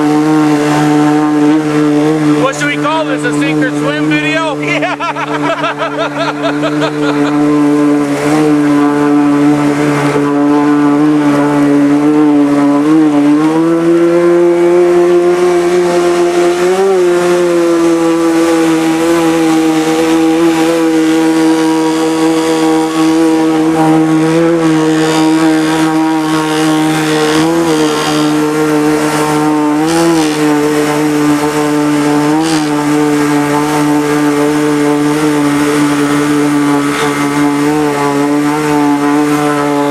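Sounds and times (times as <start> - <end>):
boat engine cruising: 0.0 - 39.9.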